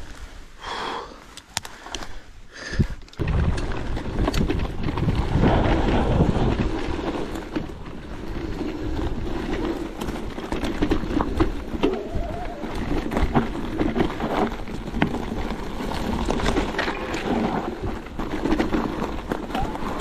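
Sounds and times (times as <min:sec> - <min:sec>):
wind buffeting microphone: 0:02.7 - 0:20.0
bike rumbling over rough trail: 0:02.8 - 0:20.0
bike knocks and rattles: 0:03.2 - 0:20.0.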